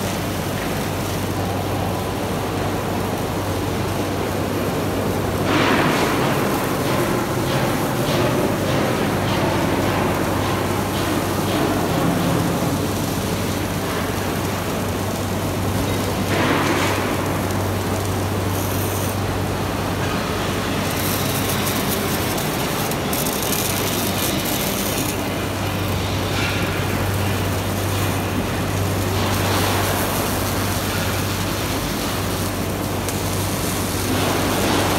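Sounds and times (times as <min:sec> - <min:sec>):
welding arcs hissing: 0:00.0 - 0:34.9.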